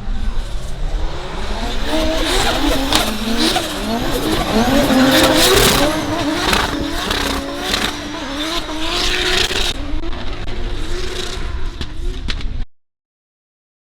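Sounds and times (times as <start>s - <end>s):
car engine at high revs: 0.0s - 12.6s.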